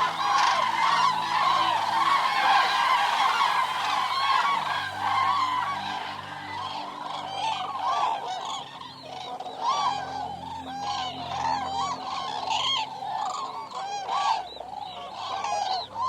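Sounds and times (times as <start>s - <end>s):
cranes trumpeting calls: 0.0s - 16.0s.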